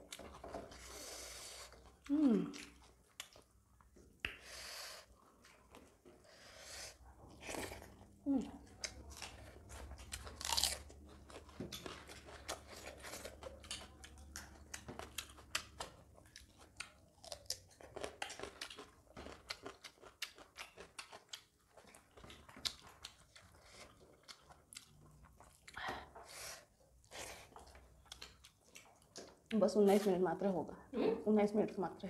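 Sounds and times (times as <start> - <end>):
person chewing and crunching: 0.0 - 4.4, 7.3 - 29.5.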